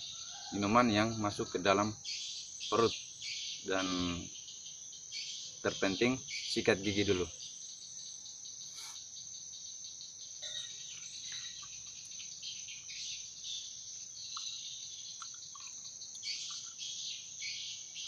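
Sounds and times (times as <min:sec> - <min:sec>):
crickets chorus: 0:00.0 - 0:18.0
short insect chirps: 0:00.0 - 0:18.0.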